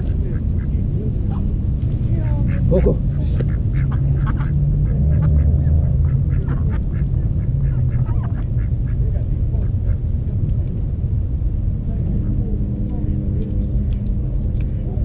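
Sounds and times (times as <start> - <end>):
ducks quacking: 0.0 - 10.4, 11.9 - 15.0
steady low rumble: 0.0 - 15.0.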